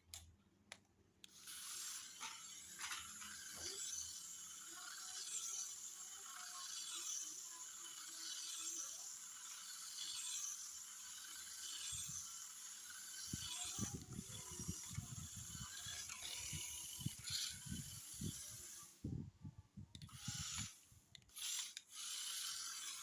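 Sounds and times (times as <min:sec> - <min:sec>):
toy car electric motor whirring: 0:01.2 - 0:23.0.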